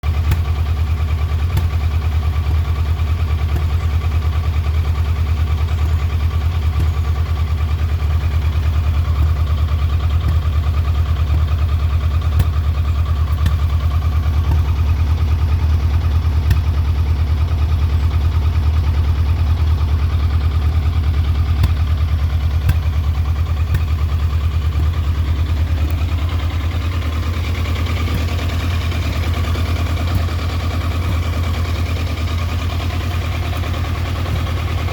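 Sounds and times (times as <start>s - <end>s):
motorcycle engine idling roughly: 0.0s - 34.9s.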